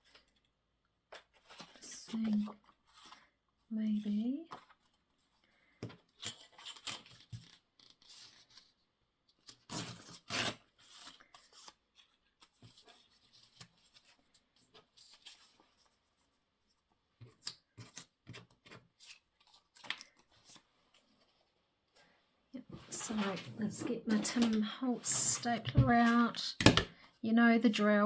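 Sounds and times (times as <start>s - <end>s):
paper and card rustling: 1.1s - 28.0s.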